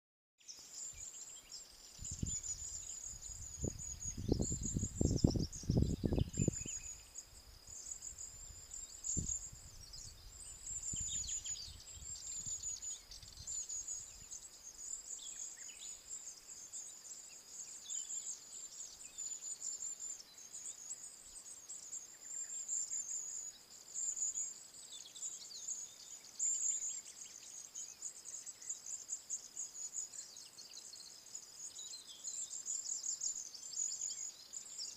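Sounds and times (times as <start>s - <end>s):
insects chirping: 0.5s - 34.9s.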